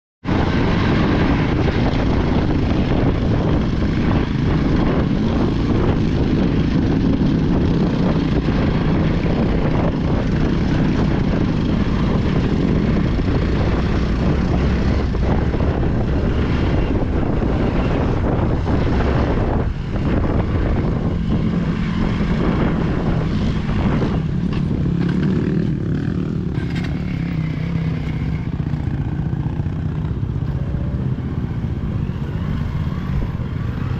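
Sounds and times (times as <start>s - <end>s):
vehicle engine drone: 0.2s - 33.9s.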